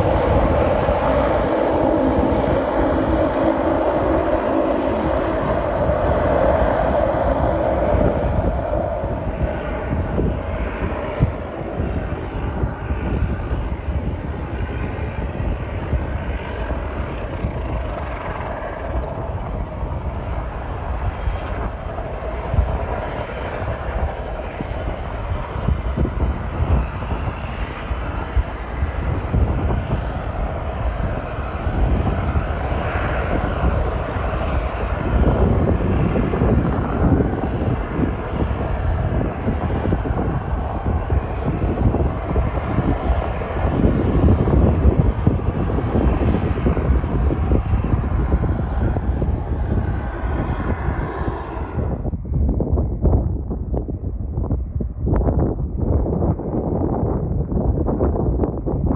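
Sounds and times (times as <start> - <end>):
airliner engines rumbling: 0.0 - 58.9.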